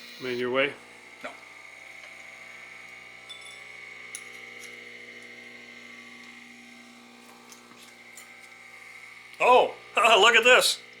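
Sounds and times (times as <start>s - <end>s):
lathe whining: 0.0s - 11.0s.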